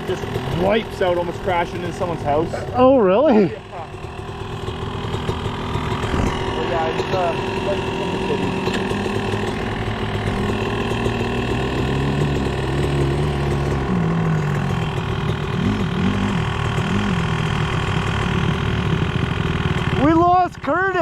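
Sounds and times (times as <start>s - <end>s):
dirt bike engines idling: 0.0s - 21.0s.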